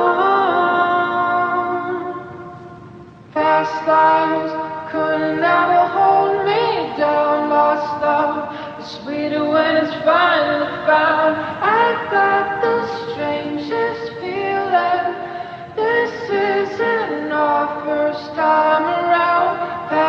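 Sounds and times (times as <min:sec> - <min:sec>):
a cappella singing voices: 0:00.0 - 0:20.0.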